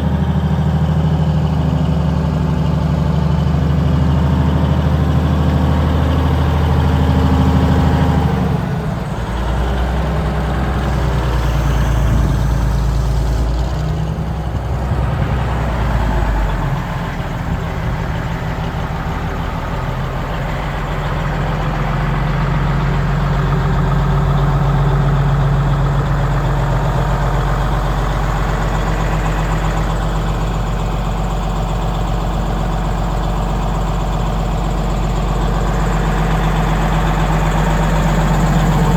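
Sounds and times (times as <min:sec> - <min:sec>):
crane engine running: 0:00.0 - 0:38.9.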